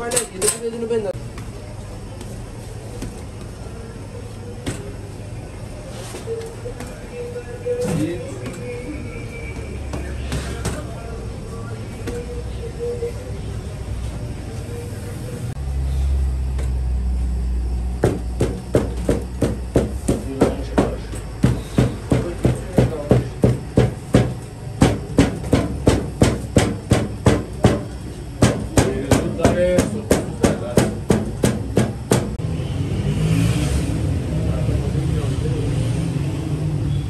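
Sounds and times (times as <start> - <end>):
steady low hum: 0.0 - 32.6.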